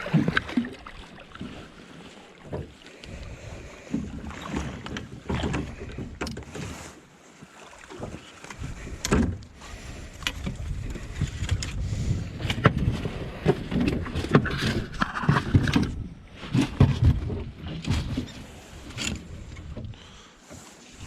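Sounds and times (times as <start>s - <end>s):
knocks and thuds in a boat: 0.0s - 21.0s.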